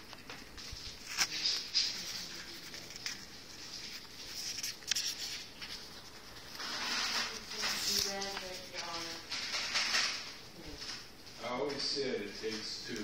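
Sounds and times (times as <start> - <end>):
paper packaging rustling: 0.0 - 11.2.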